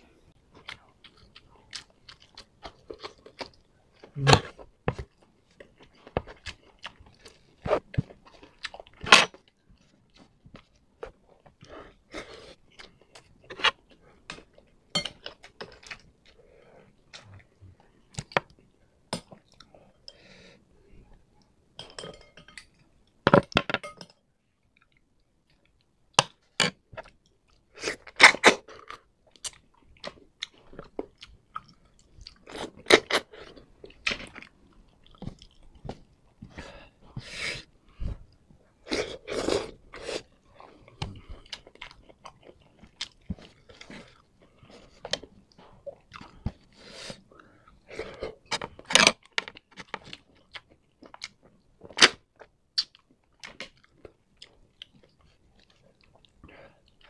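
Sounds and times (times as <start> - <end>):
chewing and crunching food: 0.3 - 20.2, 24.4 - 57.0.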